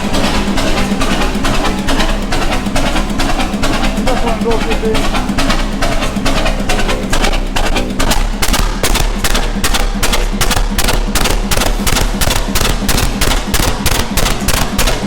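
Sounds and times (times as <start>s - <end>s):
low hum: 0.0s - 15.0s
stationary engine beating: 0.0s - 15.0s.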